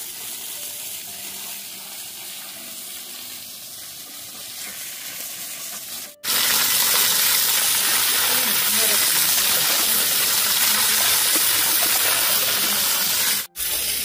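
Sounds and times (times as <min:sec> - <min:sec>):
steady hissing: 0:00.0 - 0:14.0.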